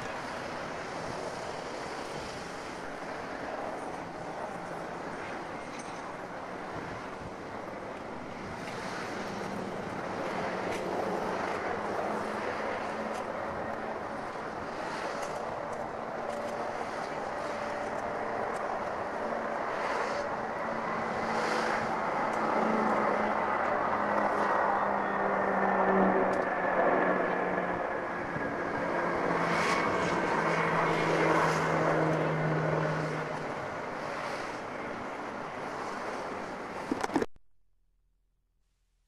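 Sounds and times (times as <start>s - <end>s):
airplane engine approaching: 0.0s - 37.2s.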